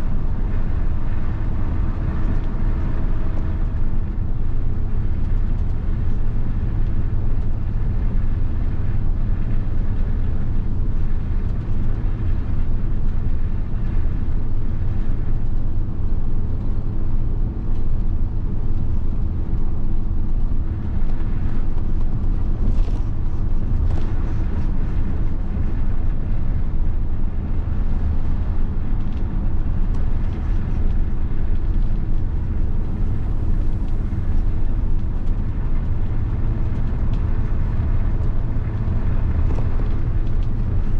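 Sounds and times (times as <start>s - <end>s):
diesel bus engine rumbling: 0.0s - 40.9s.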